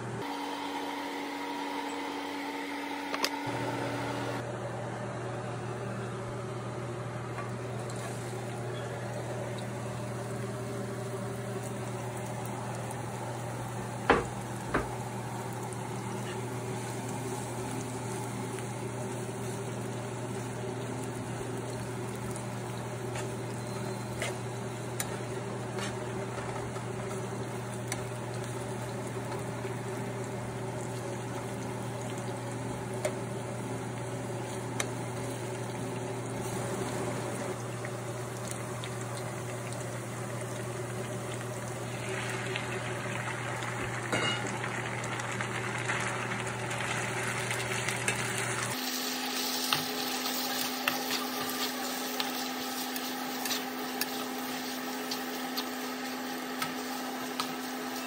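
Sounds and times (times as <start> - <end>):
onion sizzling in oil: 7.7 - 58.0.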